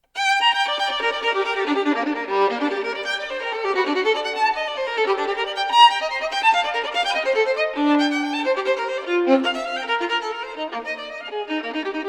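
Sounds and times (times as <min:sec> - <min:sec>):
violin melody: 0:00.0 - 0:12.0.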